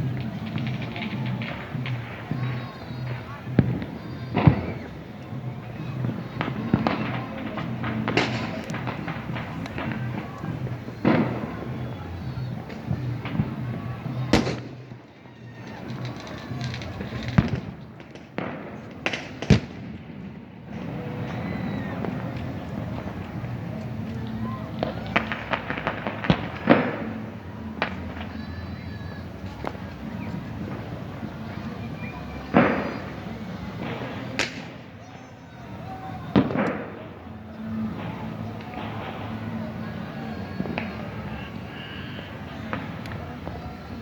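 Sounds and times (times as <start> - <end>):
fireworks bangs: 0.0 - 44.0.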